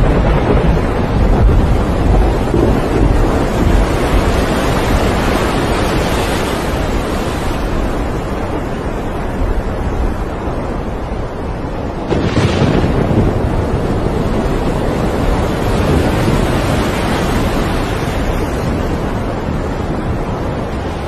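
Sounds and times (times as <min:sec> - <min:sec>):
heavy seas breaking: 0:00.0 - 0:21.0
wind rushing over microphone: 0:00.0 - 0:21.0.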